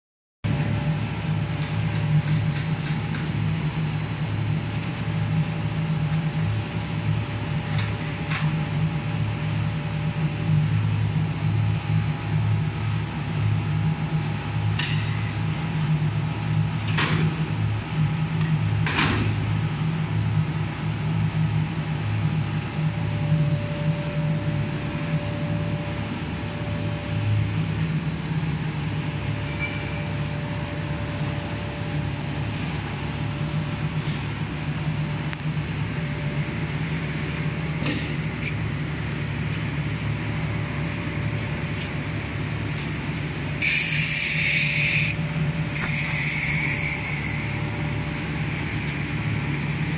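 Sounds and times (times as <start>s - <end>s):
machine hum: 0.5s - 49.9s.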